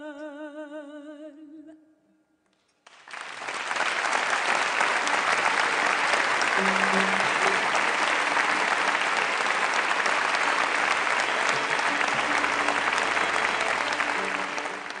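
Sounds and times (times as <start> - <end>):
audience applauding: 2.8 - 15.0.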